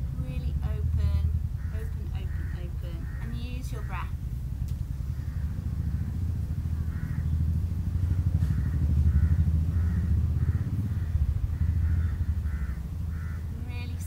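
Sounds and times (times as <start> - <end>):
low rumble: 0.0 - 14.0
harsh cawing bird calls: 0.8 - 14.0.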